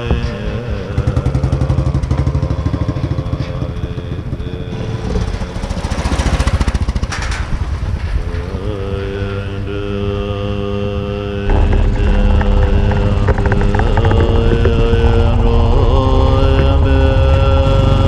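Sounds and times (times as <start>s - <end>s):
motorcycle engine running: 0.0s - 18.0s
rushing noise: 0.0s - 18.0s.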